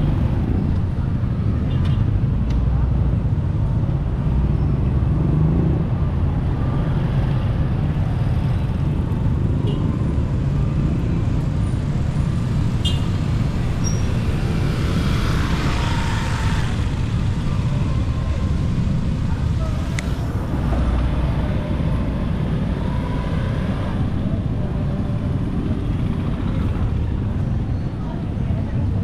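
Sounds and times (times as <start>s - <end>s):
motorcycle engines rumbling: 0.0s - 29.0s.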